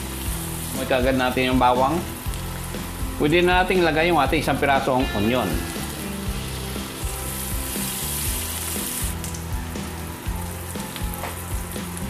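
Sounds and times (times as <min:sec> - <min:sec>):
background music with bass: 0:00.0 - 0:12.0
food sizzling in hot oil: 0:00.0 - 0:12.0.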